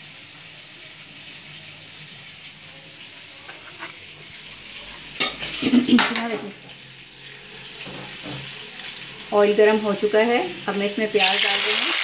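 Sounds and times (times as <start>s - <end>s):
stove hissing: 0.0s - 12.0s.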